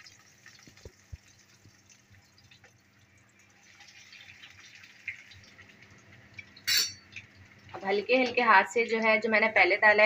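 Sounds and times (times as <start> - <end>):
oil sizzling and crackling: 0.0 - 9.9.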